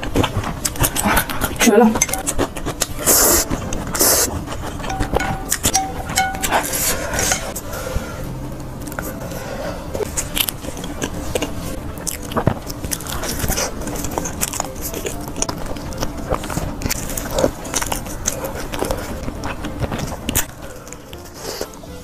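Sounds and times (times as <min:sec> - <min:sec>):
chewing toast: 0:00.0 - 0:07.6, 0:08.5 - 0:22.0.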